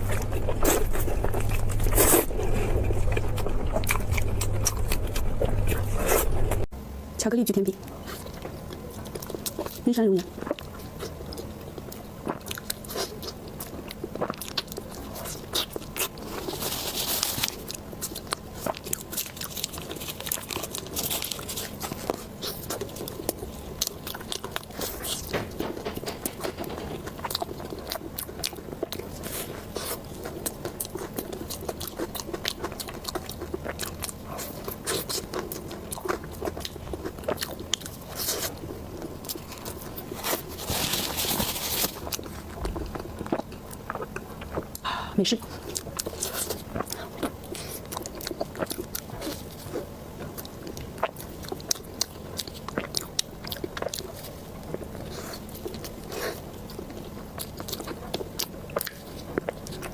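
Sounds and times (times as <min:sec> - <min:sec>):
crunching and chewing: 0:00.0 - 0:06.7, 0:07.8 - 0:59.9.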